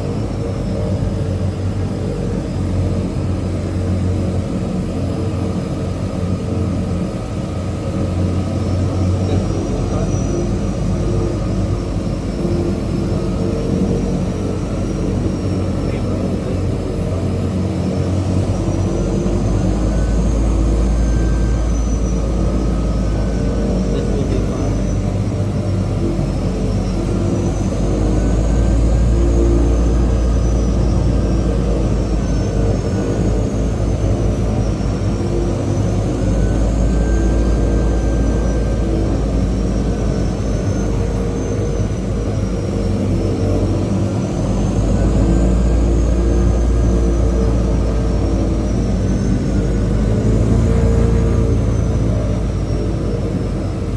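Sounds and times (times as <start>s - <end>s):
propeller engine drone: 0.0s - 53.9s
turbine whine: 0.0s - 53.9s.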